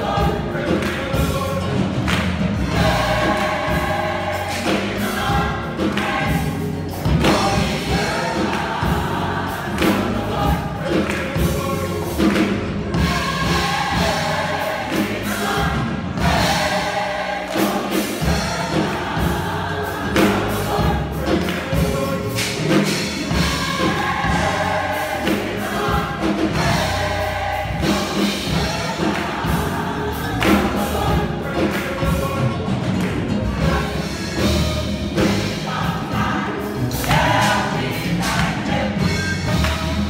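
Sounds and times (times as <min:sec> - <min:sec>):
gospel choir singing: 0:00.0 - 0:40.0.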